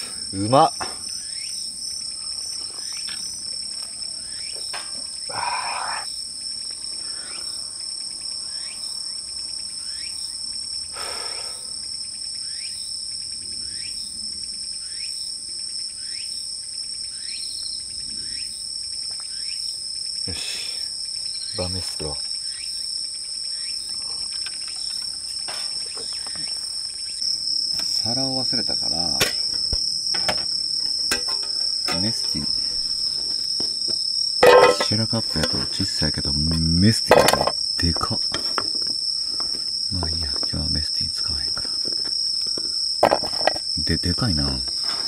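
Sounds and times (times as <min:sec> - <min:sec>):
crickets and night insects trilling: 0:00.0 - 0:45.0.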